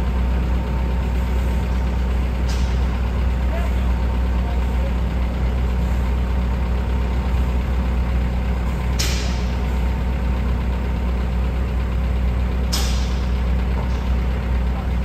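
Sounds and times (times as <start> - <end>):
forklift engines idling: 0.0 - 15.0.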